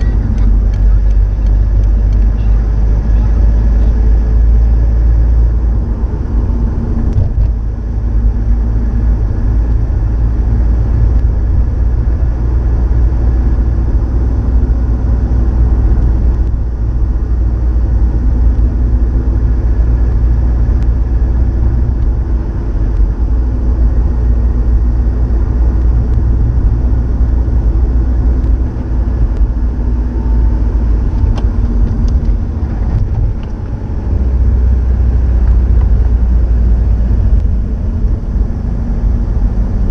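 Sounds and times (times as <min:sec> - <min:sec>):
car engine deep rumble: 0:00.0 - 0:39.9.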